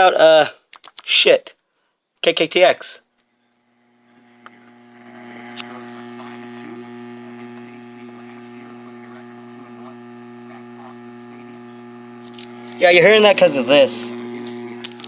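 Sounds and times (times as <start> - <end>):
electrical mains hum: 2.4 - 15.0.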